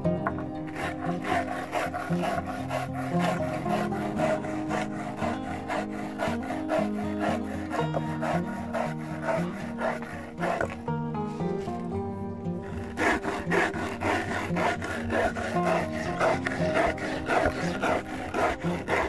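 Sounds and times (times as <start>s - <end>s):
stone rasping over grain: 0.0s - 11.8s, 12.5s - 19.0s
instrumental music: 0.0s - 19.0s.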